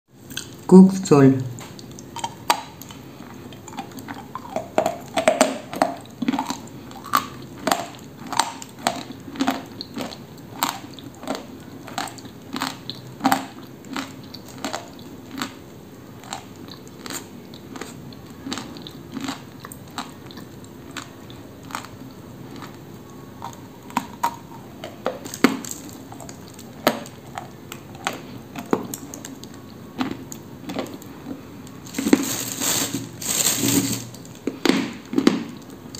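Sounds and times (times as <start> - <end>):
dry clay crunching in mouth: 1.8 - 15.6, 16.2 - 35.7.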